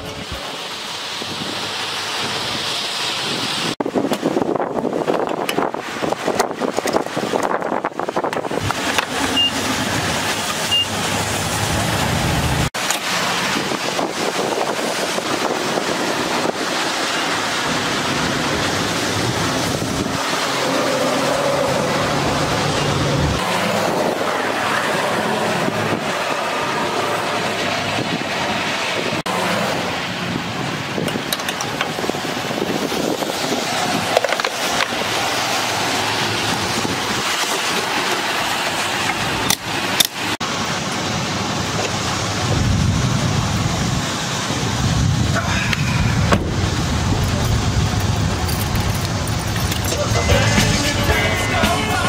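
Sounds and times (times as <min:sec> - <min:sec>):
traffic on wet road: 0:00.0 - 0:52.0.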